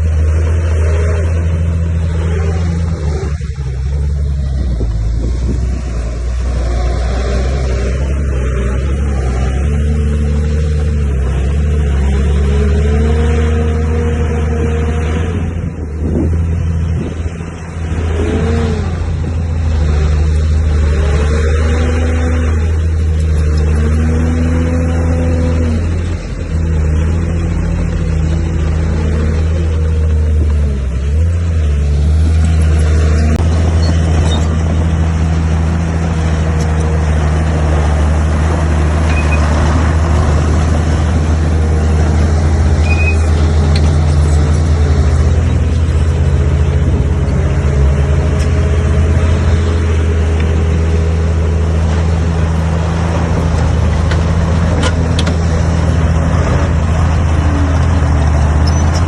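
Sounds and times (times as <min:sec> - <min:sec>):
bulldozer engine under load: 0:00.0 - 0:59.0.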